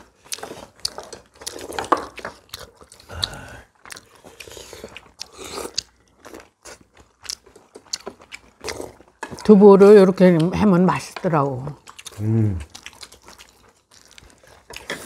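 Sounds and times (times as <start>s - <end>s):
people chewing and eating: 0.0s - 15.0s.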